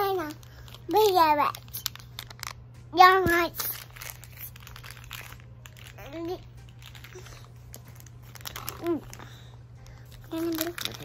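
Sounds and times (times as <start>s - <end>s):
plastic packaging crinkling: 0.0s - 2.6s, 3.3s - 11.0s.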